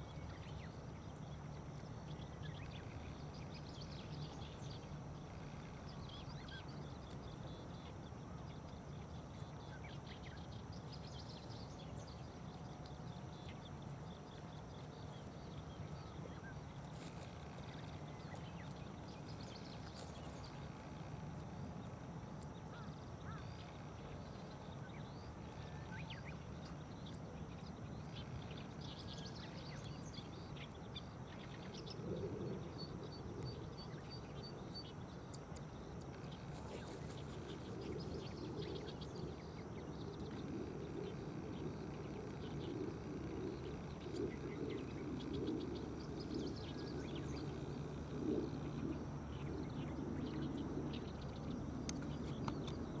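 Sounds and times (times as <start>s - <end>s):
low outdoor background noise: 0.0s - 53.0s
small birds chirping: 0.0s - 53.0s.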